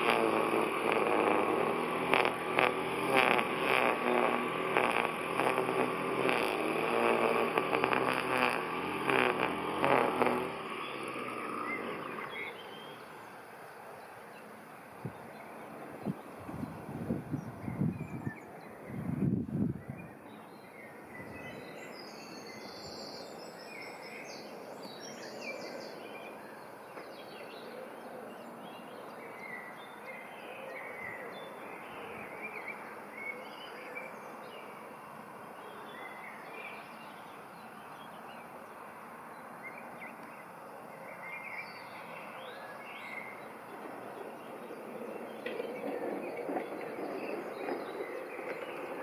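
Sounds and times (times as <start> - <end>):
outdoor background hiss: 0.0 - 49.0
birds chirping and trilling: 7.2 - 34.9, 35.6 - 49.0.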